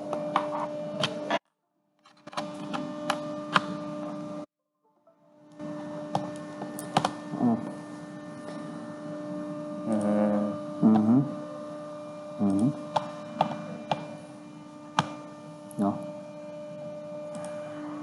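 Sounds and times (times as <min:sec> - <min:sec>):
electrical hum: 0:00.0 - 0:01.4, 0:02.0 - 0:04.5, 0:05.1 - 0:18.0.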